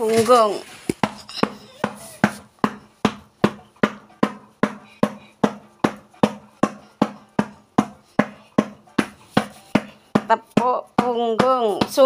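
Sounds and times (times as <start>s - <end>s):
patting tool knocking on back: 0.9s - 12.0s.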